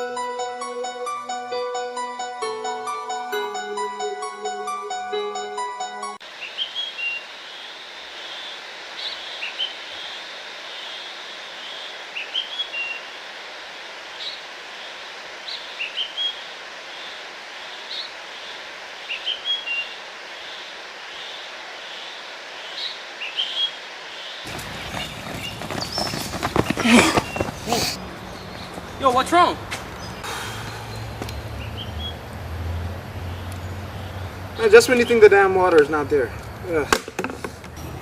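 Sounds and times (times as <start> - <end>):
birds chirping rising calls: 0.0 - 13.3, 14.0 - 36.2
steady outdoor hiss: 0.0 - 38.0.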